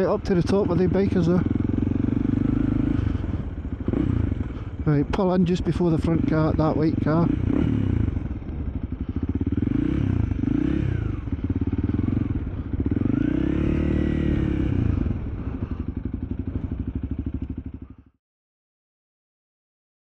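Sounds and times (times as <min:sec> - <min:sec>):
motorcycle engine revving: 0:00.0 - 0:18.1.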